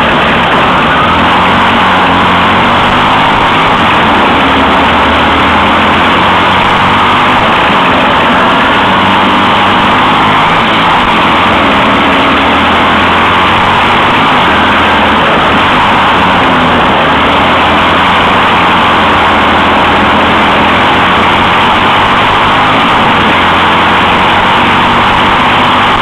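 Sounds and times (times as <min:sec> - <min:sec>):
dense rushing noise: 0:00.0 - 0:26.0
racing kart engine: 0:00.0 - 0:26.0.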